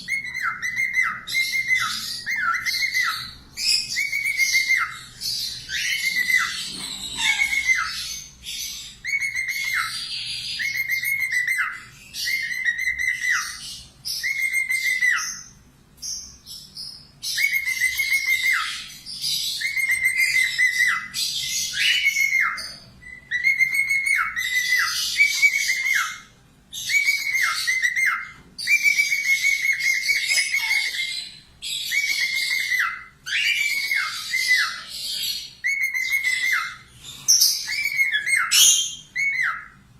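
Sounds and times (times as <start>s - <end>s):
budgerigar whistling and chattering: 0.0s - 39.8s.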